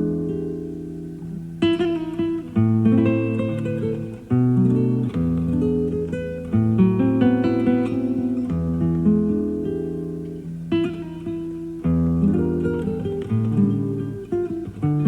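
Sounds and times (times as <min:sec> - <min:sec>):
classical guitar playing: 0:00.0 - 0:15.0.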